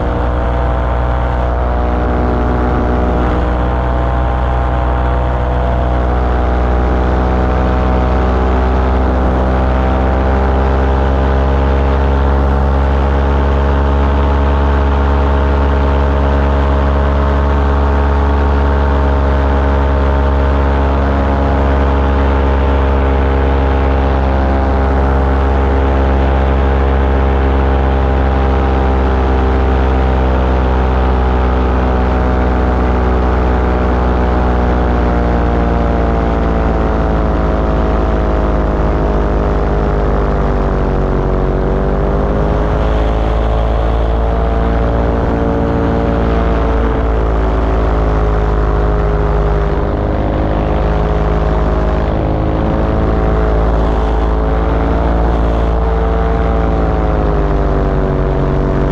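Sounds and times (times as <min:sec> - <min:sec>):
small aircraft engine running: 0:00.0 - 0:58.9.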